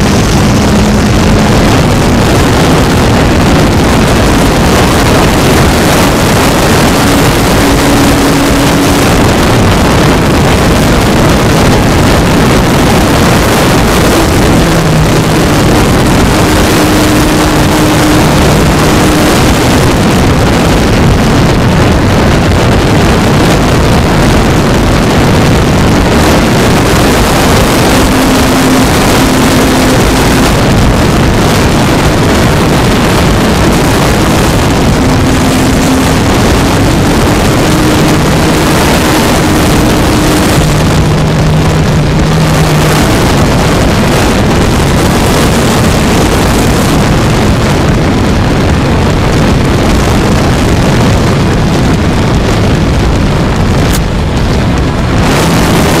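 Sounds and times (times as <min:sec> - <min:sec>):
wind rush over microphone: 0:00.0 - 0:56.0.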